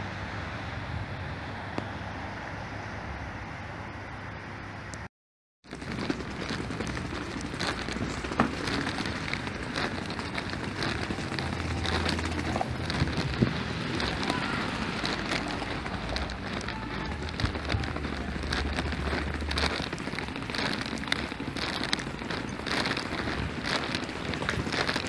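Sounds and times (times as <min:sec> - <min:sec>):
street noise hiss with crackles: 0:00.0 - 0:05.1, 0:05.7 - 0:25.0.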